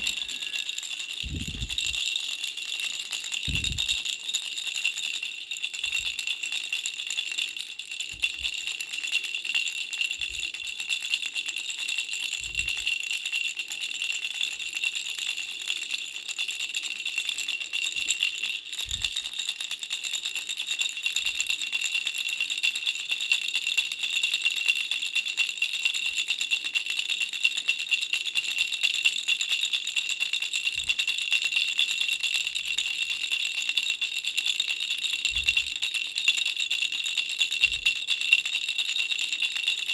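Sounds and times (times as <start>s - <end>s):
baby rattle jingling: 0.0s - 14.6s, 15.3s - 21.9s, 25.8s - 39.9s.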